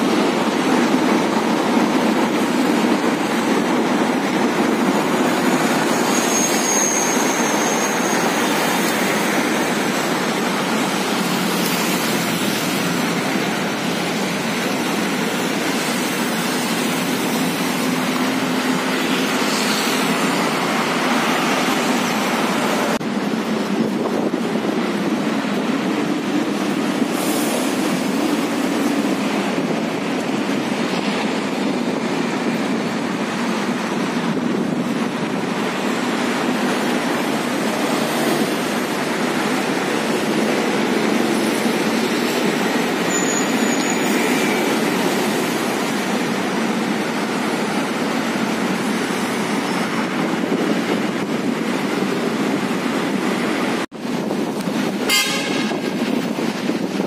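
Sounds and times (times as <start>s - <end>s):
steady rushing outdoor noise: 0.0s - 57.0s.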